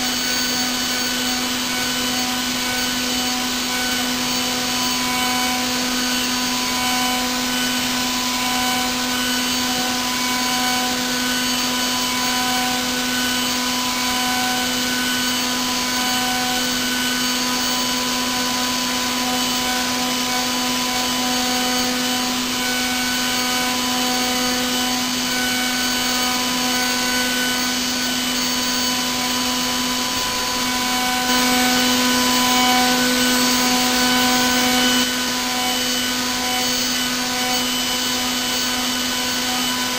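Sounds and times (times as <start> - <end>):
milling machine spindle hum: 0.0 - 39.9.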